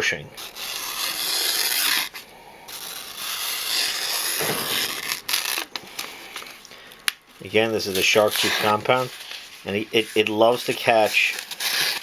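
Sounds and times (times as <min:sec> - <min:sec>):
knife slicing through paper: 0:00.0 - 0:05.8, 0:07.6 - 0:12.0.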